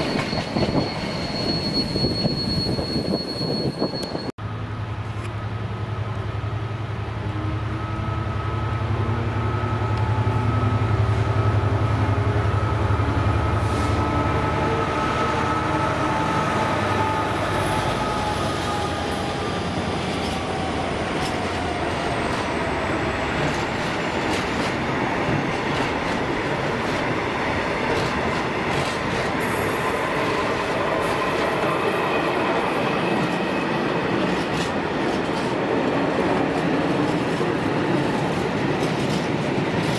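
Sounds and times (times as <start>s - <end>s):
diesel locomotive passing: 3.9s - 39.9s.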